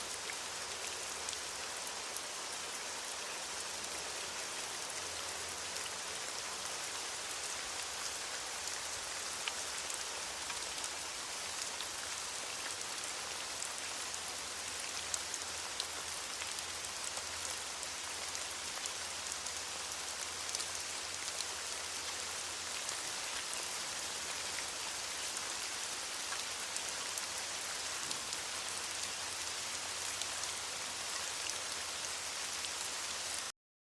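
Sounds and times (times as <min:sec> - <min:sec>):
rain falling on leaves: 0:00.0 - 0:33.5.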